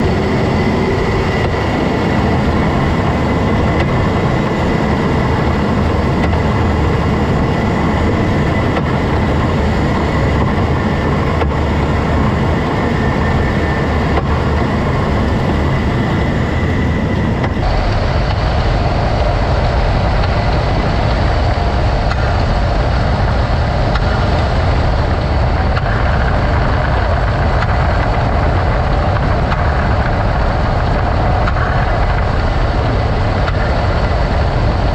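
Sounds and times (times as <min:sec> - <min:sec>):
road noise: 0:00.0 - 0:34.9
vehicle running: 0:00.0 - 0:34.9.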